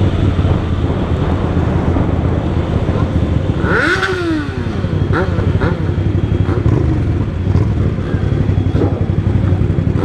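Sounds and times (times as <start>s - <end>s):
motorcycle engines idling: 0.0s - 10.0s.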